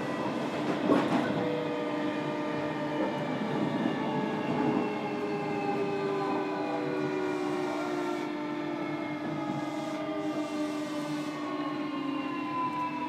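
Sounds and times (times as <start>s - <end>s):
wheels rumbling on rail: 0.0s - 11.9s.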